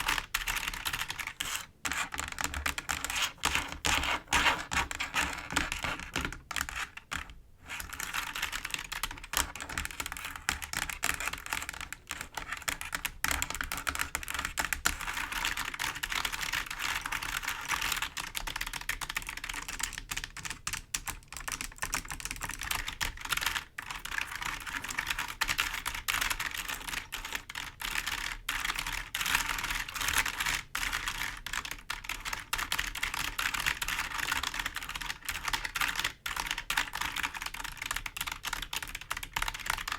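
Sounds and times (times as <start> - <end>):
fingers typing on clicky keyboard: 0.0 - 39.9.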